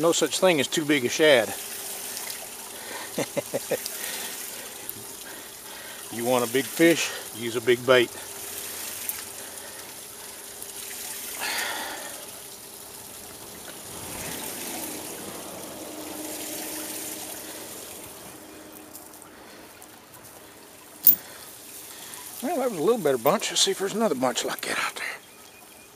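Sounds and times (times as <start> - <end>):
water splashing and trickling: 0.0 - 25.9.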